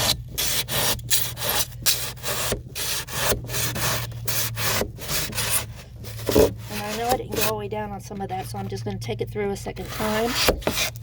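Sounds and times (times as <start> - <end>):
knife sawing through foam: 0.0 - 7.6, 9.8 - 11.0.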